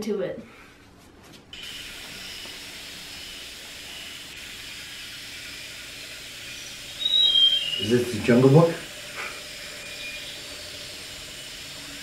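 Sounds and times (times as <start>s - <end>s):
steady hiss: 1.5s - 12.0s.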